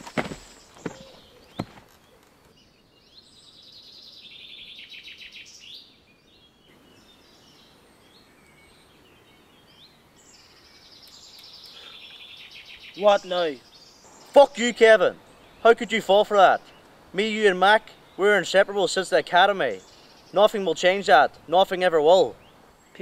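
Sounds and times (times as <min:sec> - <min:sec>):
birds trilling and chirping: 0:00.0 - 0:23.0.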